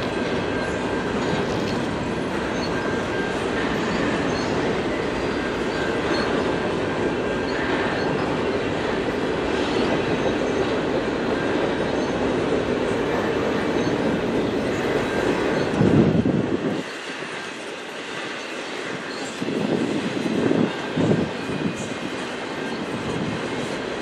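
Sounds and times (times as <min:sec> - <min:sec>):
train wheels clattering on rail joints: 0:00.0 - 0:24.0.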